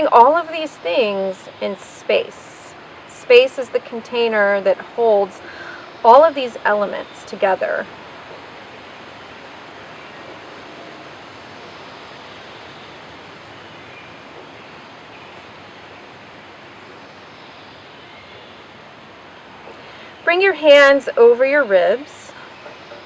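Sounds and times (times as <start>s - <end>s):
steady outdoor background hiss: 0.0s - 23.0s.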